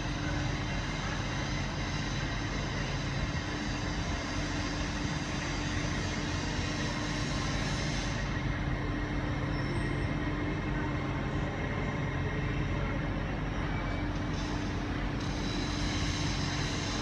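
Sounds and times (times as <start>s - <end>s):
train rumbling and humming: 0.0s - 17.0s.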